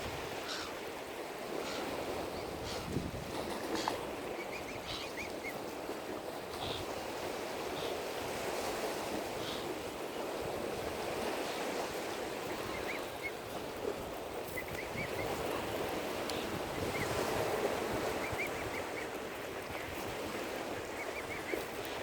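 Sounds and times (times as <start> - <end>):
lake water lapping: 0.0 - 22.0
wind: 0.0 - 22.0.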